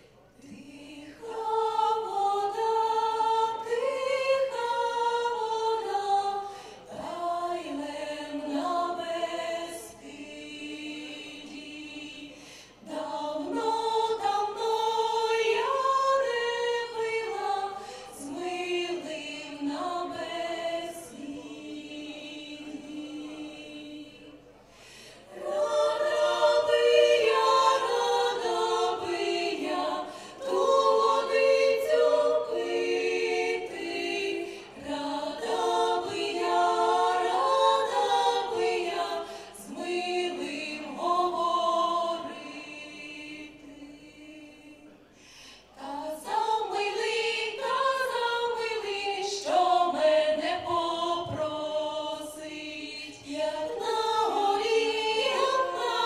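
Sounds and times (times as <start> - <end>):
women singing in harmony: 0.1 - 56.0.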